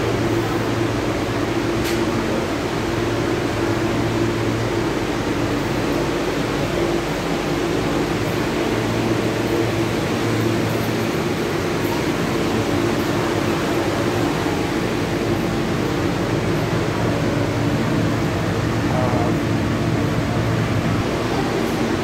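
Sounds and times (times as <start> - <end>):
subway car ventilation hum: 0.0 - 22.0.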